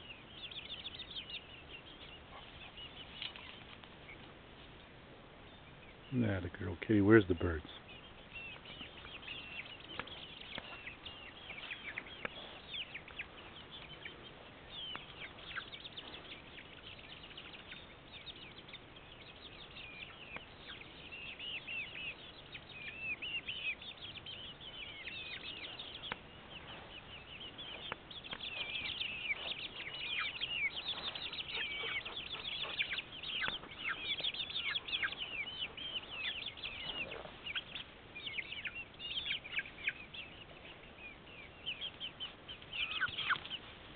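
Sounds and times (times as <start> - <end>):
chicks peeping and chirping: 0.0 - 43.9.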